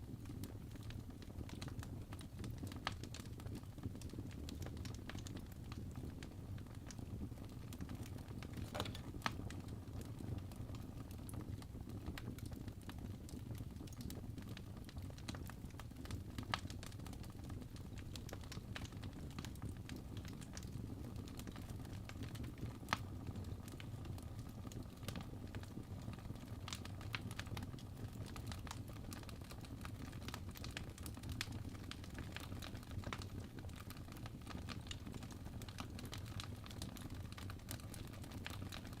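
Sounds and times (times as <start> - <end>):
fire crackling and popping: 0.0 - 39.0.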